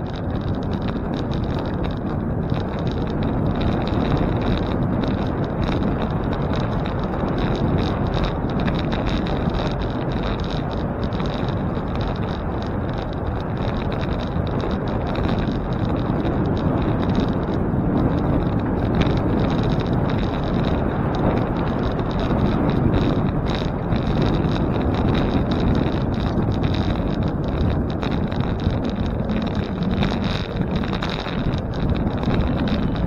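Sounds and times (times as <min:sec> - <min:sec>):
bicycle tyre and road noise: 0:00.0 - 0:33.0
faint small ticks and rattles: 0:00.0 - 0:33.0
wind on microphone: 0:00.0 - 0:33.0.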